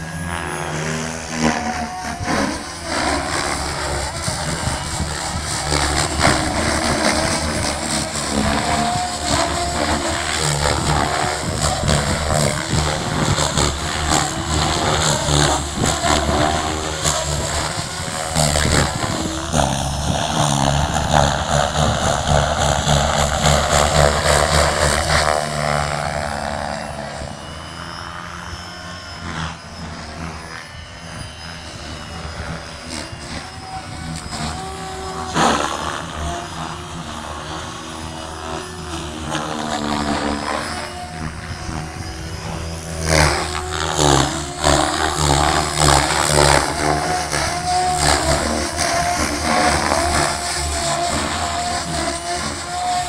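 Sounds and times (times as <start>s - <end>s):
model helicopter rotor and motor: 0.0s - 53.0s.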